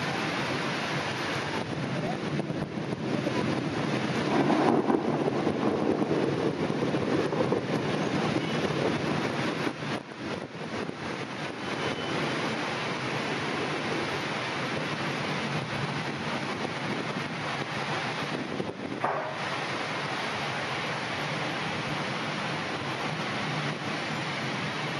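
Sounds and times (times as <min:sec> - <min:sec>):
heavy rain: 0:00.0 - 0:24.9
wind: 0:00.0 - 0:24.9.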